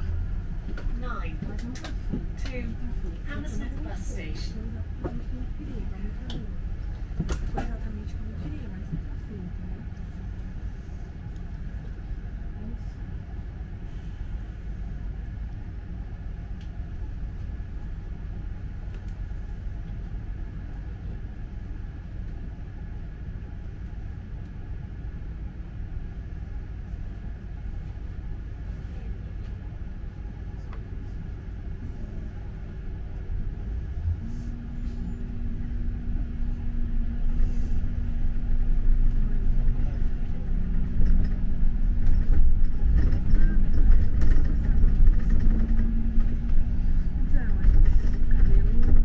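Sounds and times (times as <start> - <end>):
road noise: 0.0 - 23.6, 24.2 - 49.0
bus engine rumble: 0.0 - 49.0
low steady drone: 7.9 - 49.0.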